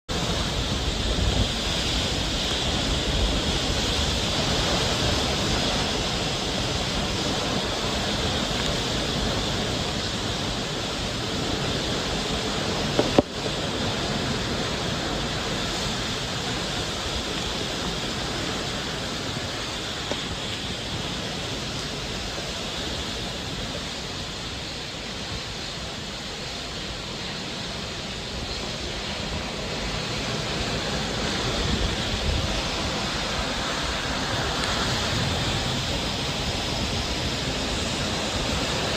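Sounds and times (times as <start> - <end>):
driving rain: 0.1 - 38.9
strong wind: 0.1 - 38.9
wind buffeting microphone: 0.1 - 38.9.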